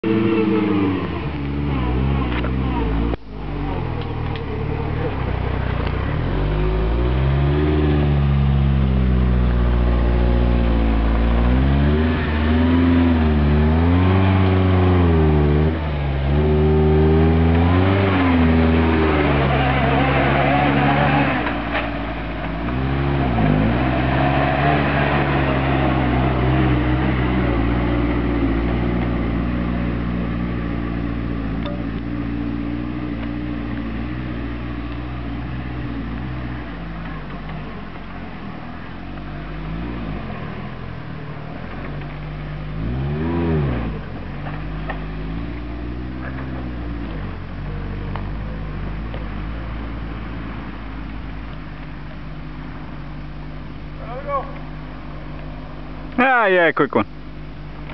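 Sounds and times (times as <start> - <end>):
off-road vehicle engine revving: 0.0 - 57.9.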